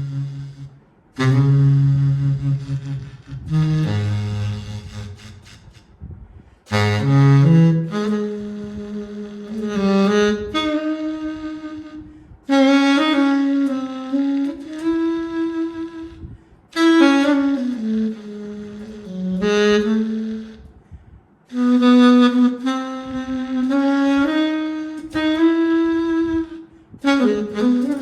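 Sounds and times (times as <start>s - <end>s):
saxophone melody: 0.0s - 6.0s, 6.7s - 20.8s, 21.5s - 28.0s.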